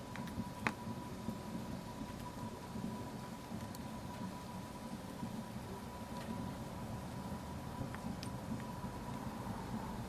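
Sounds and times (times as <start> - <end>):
fire crackle: 0.0 - 10.0
fire rumbling in a fireplace: 0.0 - 10.0.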